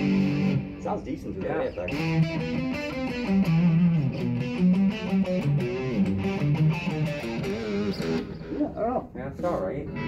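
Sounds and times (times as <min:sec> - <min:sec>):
electric guitar playing: 0:00.0 - 0:08.9.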